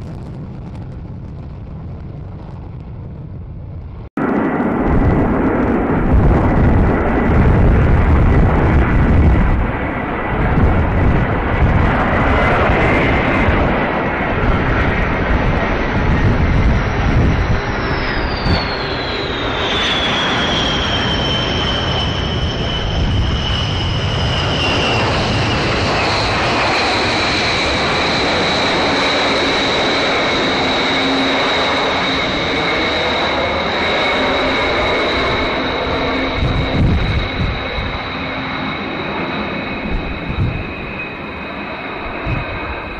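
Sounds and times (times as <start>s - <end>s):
deep jet rumble: 0.0s - 42.9s
high turbine whine: 3.4s - 42.9s.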